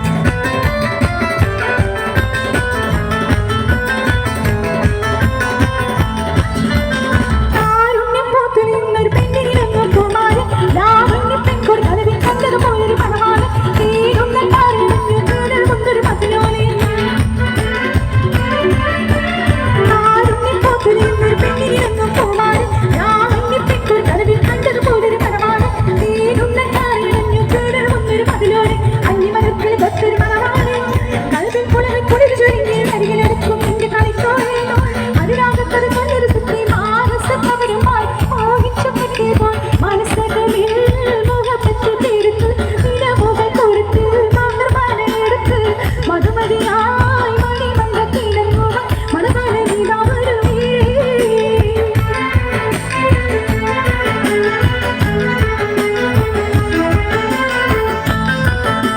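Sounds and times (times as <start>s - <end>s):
song played through sound system: 0.0s - 58.9s.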